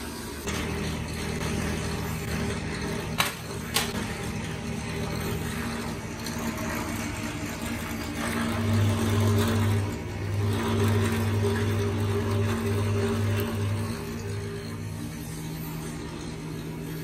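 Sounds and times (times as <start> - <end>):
drill press motor humming: 0.0 - 17.0.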